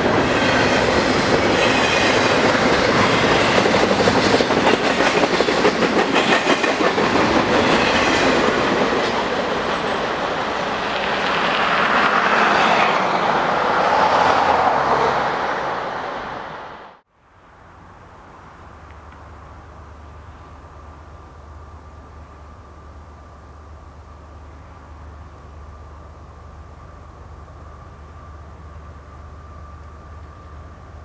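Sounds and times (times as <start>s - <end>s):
freight train rumbling: 0.0s - 31.0s.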